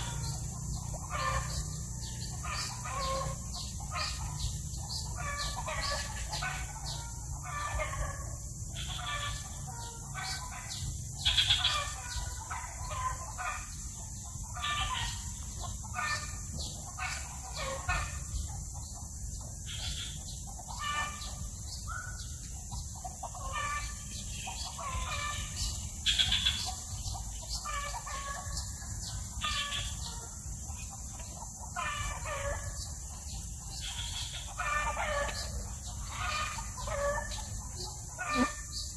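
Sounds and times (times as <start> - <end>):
bird calls: 0.0 - 38.9
steady low hum: 0.0 - 38.9.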